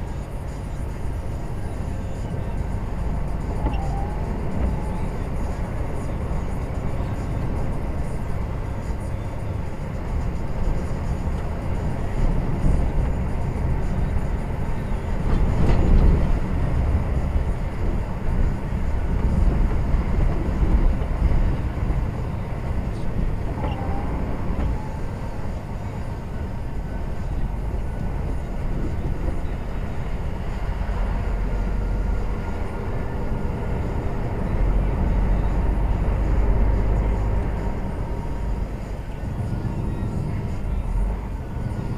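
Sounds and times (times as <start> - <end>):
diesel engine rumbling: 0.0 - 41.9.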